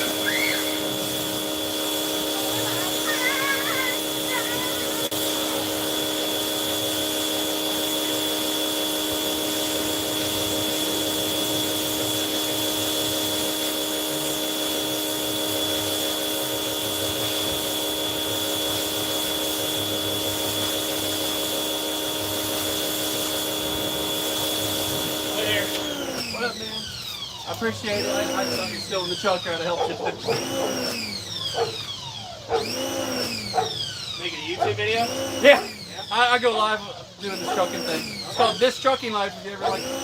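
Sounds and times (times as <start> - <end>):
electric motor whine with hiss: 0.0 - 40.0.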